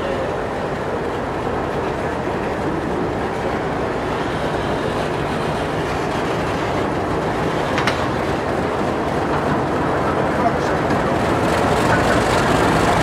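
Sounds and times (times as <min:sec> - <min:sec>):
diesel locomotive engine rumble: 0:00.0 - 0:13.0
rail and wheel noise: 0:00.0 - 0:13.0.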